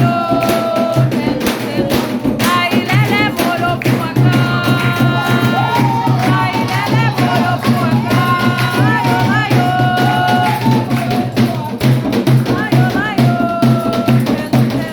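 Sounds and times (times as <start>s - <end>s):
drums beating a rhythm: 0.0s - 14.9s
voices singing a chant: 0.0s - 14.9s.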